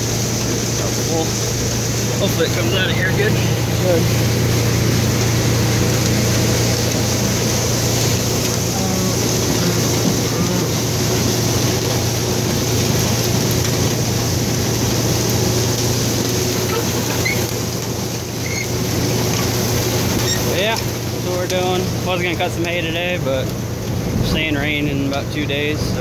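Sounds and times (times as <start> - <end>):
tractor engine drone: 0.0 - 26.0.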